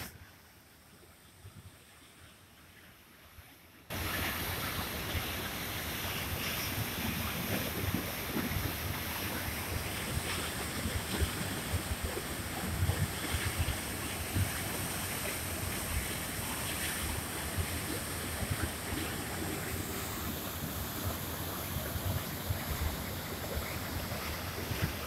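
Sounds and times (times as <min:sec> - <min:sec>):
waterfall roaring: 0:03.9 - 0:25.0.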